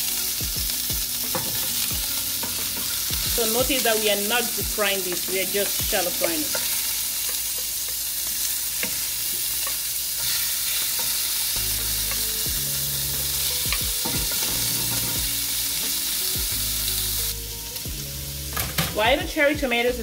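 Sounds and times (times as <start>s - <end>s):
shrimp sizzling in hot oil: 0.0s - 20.0s.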